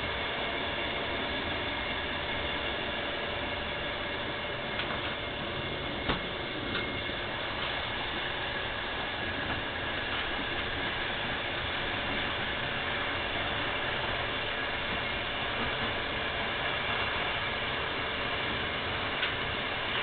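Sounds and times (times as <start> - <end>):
faint whining tones: 0.0 - 20.0
train mechanical running noise: 0.0 - 20.0.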